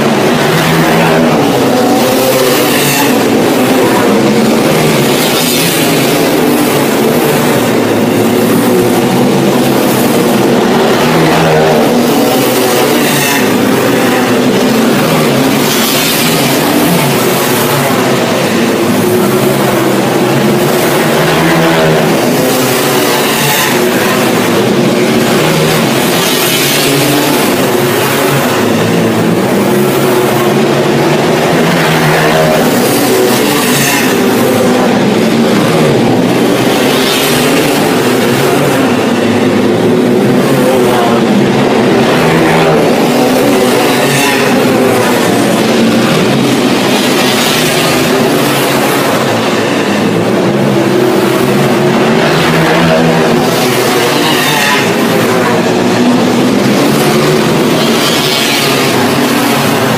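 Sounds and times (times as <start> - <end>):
race car engines at high revs: 0.0 - 59.9.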